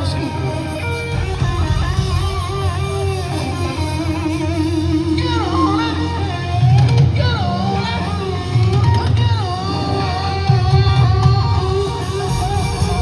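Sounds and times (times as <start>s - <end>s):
electric guitar bent notes: 0.0s - 13.0s
guitar note sliding downward: 0.0s - 13.0s
live rock band playing: 0.0s - 13.0s.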